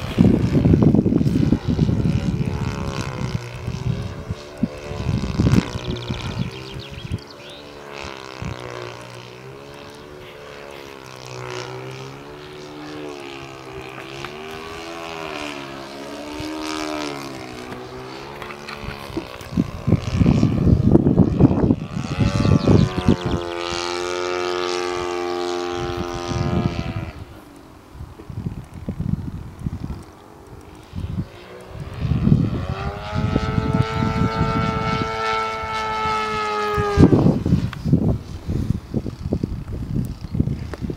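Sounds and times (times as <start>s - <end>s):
model airplane engine: 0.0s - 40.9s
wind buffeting microphone: 0.0s - 40.9s.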